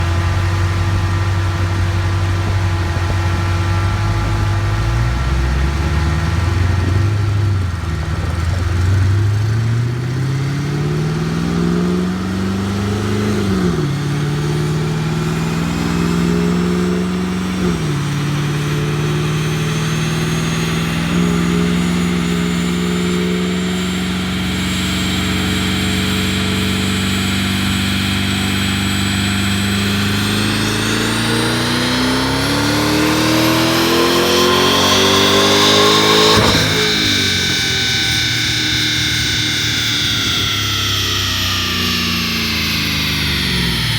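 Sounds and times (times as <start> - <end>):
car engine revving on dyno: 0.0 - 43.9
high whine: 0.0 - 43.9.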